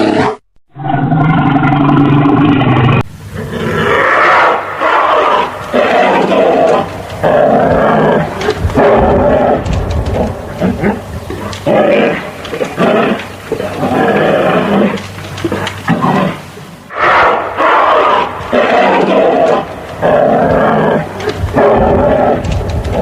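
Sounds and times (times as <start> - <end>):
large animal roaring: 0.0 - 23.0.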